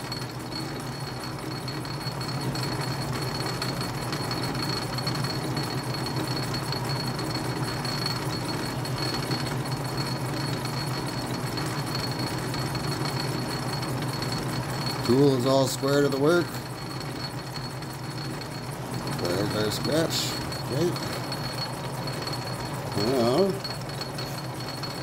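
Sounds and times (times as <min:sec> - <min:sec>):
metal lathe humming with high whine: 0:00.0 - 0:25.0.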